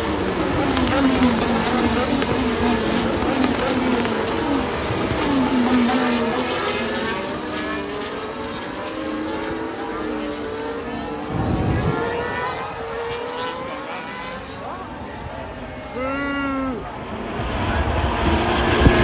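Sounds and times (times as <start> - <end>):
racing cars passing by: 0.0 - 19.0.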